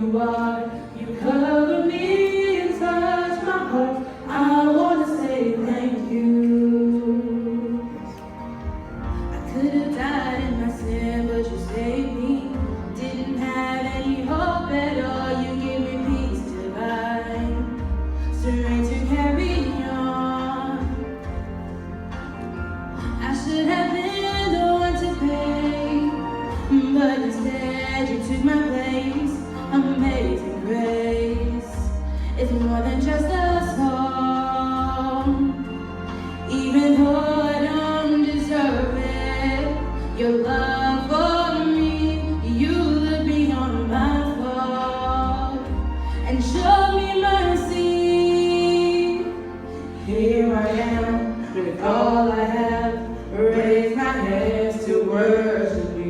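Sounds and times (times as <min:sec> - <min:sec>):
instrumental accompaniment with bass: 0:00.0 - 0:56.0
woman singing a worship song: 0:00.0 - 0:56.0.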